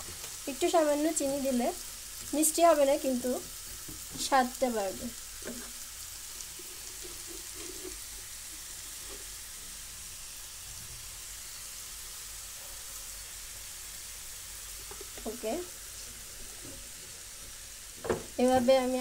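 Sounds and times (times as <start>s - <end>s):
vegetables sizzling in pan: 0.0s - 19.0s.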